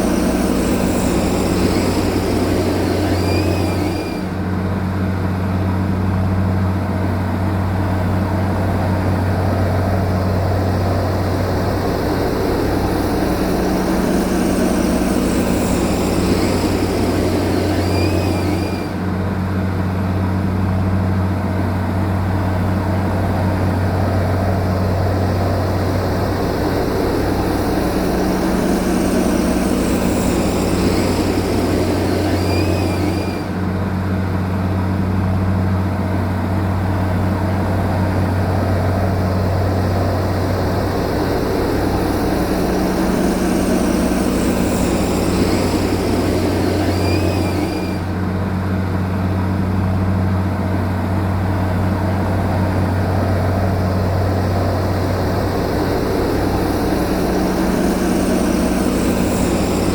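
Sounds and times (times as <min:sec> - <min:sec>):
heavy engine droning: 0:00.0 - 0:59.9.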